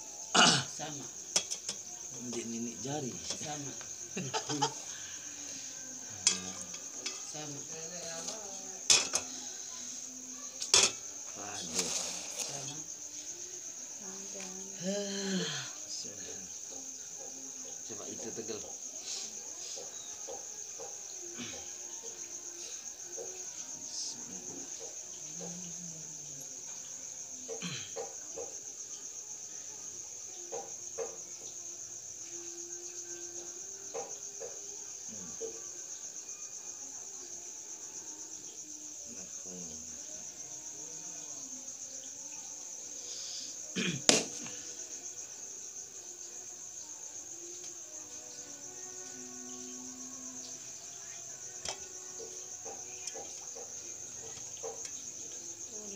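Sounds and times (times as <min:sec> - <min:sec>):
crickets chirring: 0:00.0 - 0:55.9.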